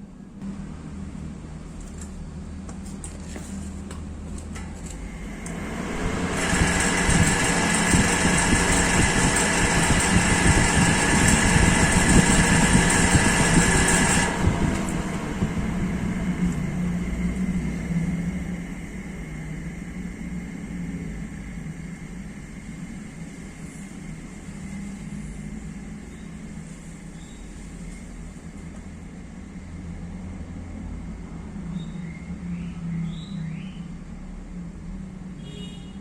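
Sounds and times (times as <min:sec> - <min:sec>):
exhaust fan humming: 0:00.0 - 0:31.3
fan air rushing with whine: 0:00.0 - 0:36.0.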